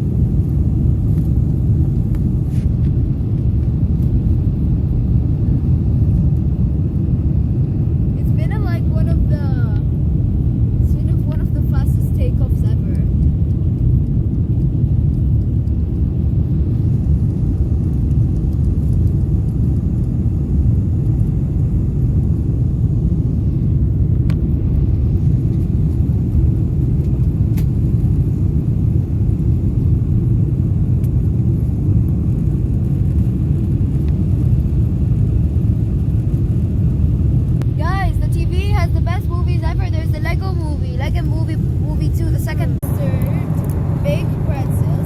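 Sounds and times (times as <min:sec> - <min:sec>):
airplane cabin rumble: 0:00.0 - 0:45.0.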